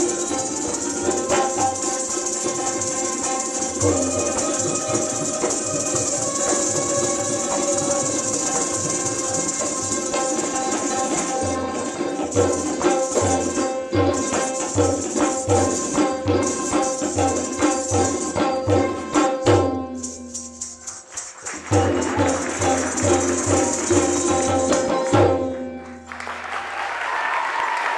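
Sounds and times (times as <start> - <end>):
tabla drumming: 0.0 - 26.3.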